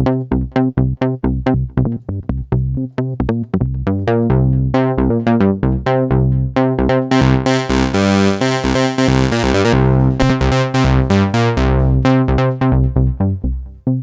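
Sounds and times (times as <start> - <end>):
synthesizer bass line: 0.0 - 14.0.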